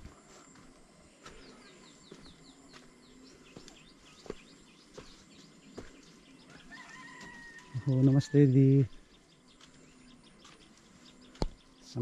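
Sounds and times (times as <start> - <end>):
footsteps on stone path: 0.0 - 7.8, 8.9 - 11.8.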